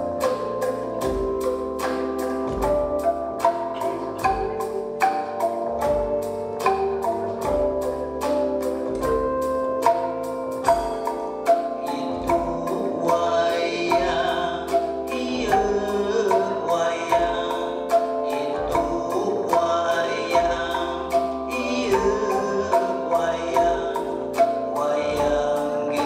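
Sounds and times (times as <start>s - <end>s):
bamboo tubes struck with mallet: 0.0s - 26.0s
bass guitar: 0.0s - 26.0s
drums: 0.0s - 26.0s
person singing: 0.0s - 26.0s.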